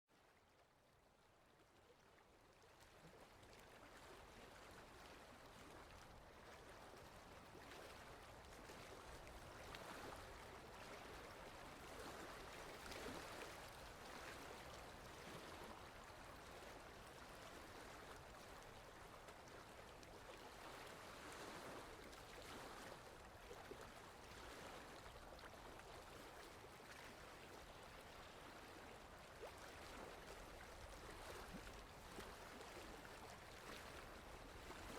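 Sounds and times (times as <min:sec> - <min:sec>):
waves lapping against shore: 0:02.6 - 0:34.9.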